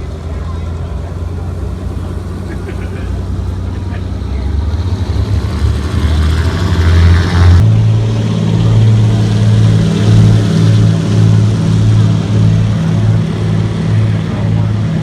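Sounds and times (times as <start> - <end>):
propeller engines droning: 0.0 - 15.0.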